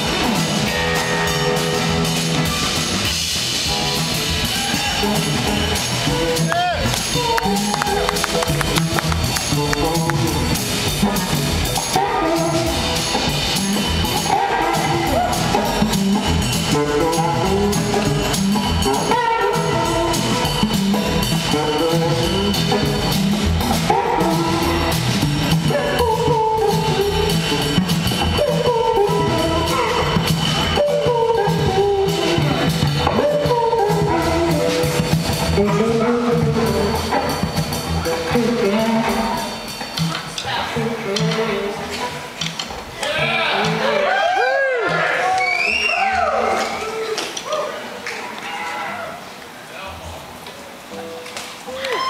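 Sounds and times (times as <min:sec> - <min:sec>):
drum kit: 0:00.0 - 0:46.8
bass guitar: 0:00.0 - 0:46.9
electric guitars: 0:00.0 - 0:48.5.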